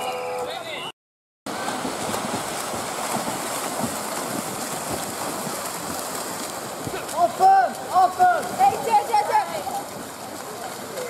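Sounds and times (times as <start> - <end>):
pool water splashing: 1.5 - 11.0.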